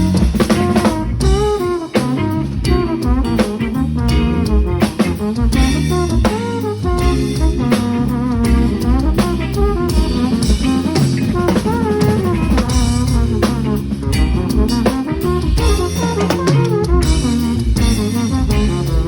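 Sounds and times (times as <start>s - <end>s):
drum kit playing: 0.0s - 19.0s
soul-jazz backing track: 0.0s - 19.0s.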